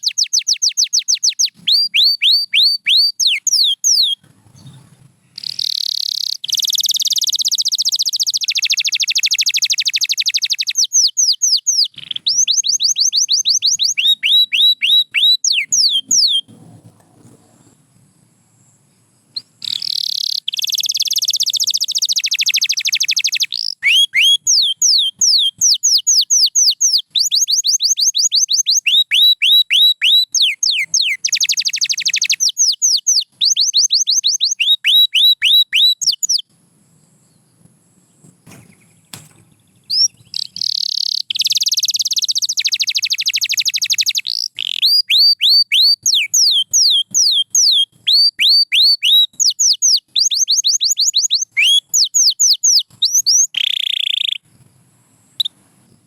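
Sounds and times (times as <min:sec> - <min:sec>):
canary singing: 0:00.0 - 0:17.8, 0:19.2 - 0:36.5, 0:38.2 - 0:54.5.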